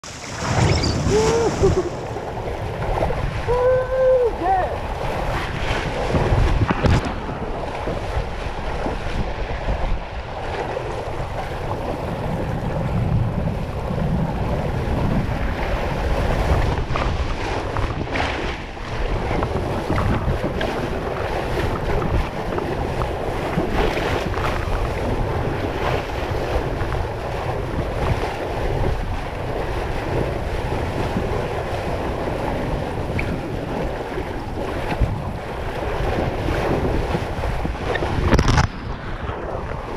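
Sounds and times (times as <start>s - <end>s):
water rushing and splashing: 0.0s - 39.9s
wind noise on microphone: 0.0s - 39.9s.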